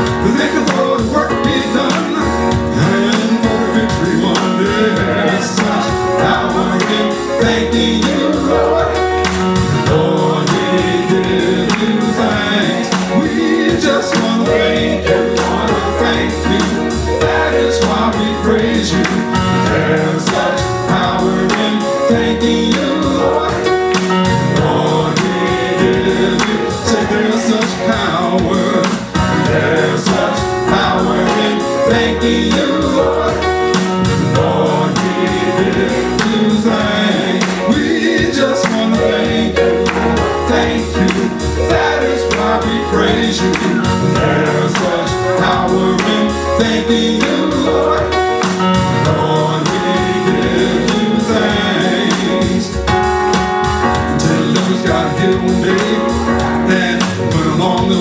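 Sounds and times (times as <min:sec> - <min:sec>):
band with beat and bass: 0:00.0 - 0:58.0
voices singing gospel: 0:00.0 - 0:58.0.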